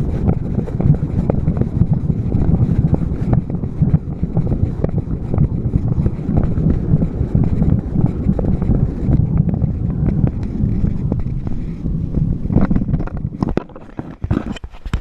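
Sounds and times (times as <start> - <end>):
camera handling rumble and rustle: 0.0 - 15.0.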